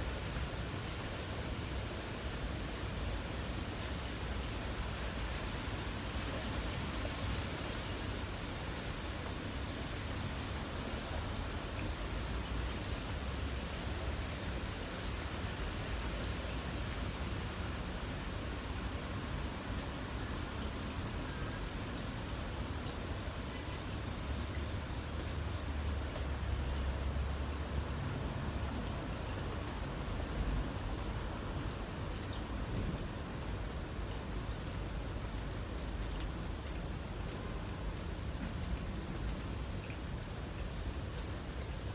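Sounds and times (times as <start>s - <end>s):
crickets trilling: 0.0s - 41.9s
light rain hiss: 0.0s - 41.9s.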